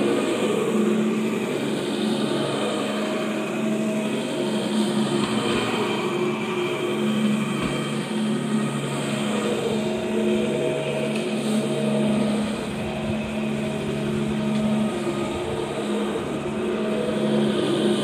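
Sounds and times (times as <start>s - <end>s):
carpet cleaning machine humming: 0.0s - 18.0s.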